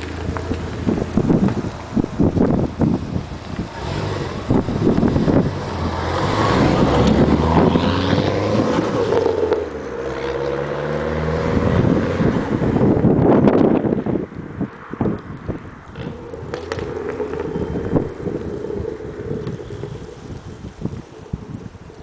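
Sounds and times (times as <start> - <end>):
car engine revving under load: 0.0 - 13.9, 15.6 - 21.5.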